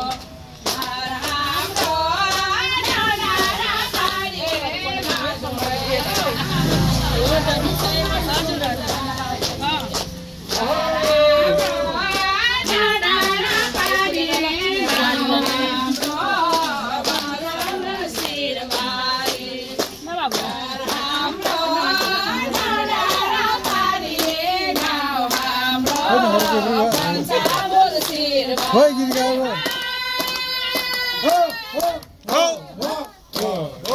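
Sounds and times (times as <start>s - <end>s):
rhythmic hand clapping: 0.0s - 33.9s
women singing together: 0.0s - 33.9s.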